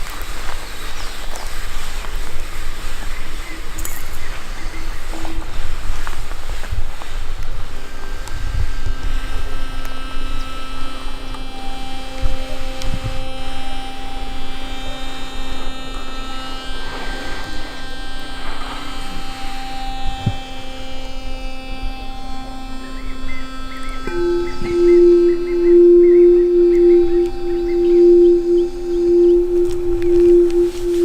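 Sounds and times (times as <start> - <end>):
singing bowls ringing: 0.0 - 31.0.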